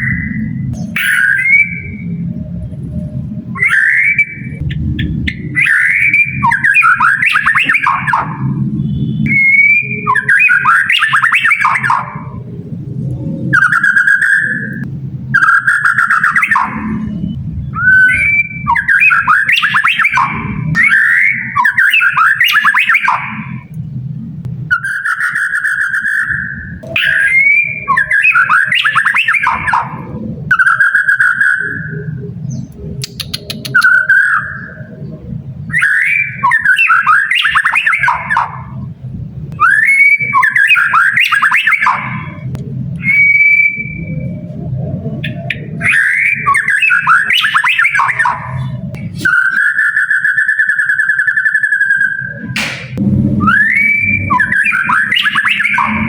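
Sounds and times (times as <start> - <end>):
songbird whistling and warbling: 0.0 - 24.0, 24.6 - 38.9, 39.6 - 56.0.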